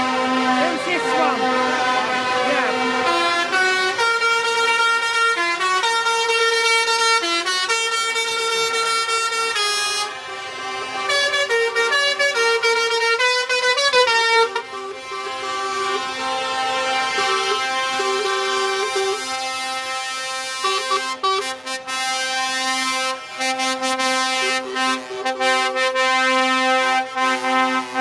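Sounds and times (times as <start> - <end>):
truck air horns: 0.0 - 28.0.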